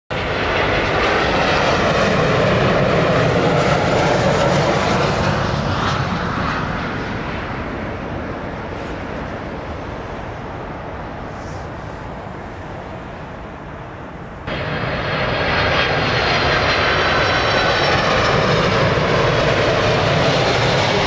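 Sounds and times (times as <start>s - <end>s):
jet airliner engines passing: 0.1s - 21.0s.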